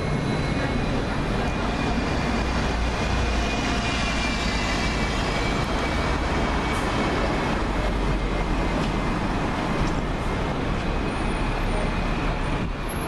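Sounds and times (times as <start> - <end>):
bus engine rumble: 0.0 - 13.0
street traffic: 0.0 - 13.0.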